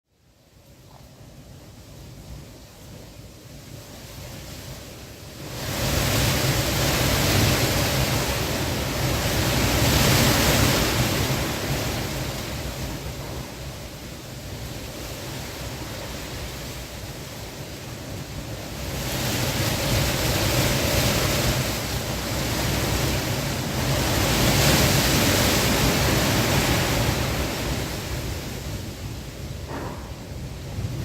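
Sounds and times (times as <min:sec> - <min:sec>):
strong wind gusting: 0:00.8 - 0:31.0.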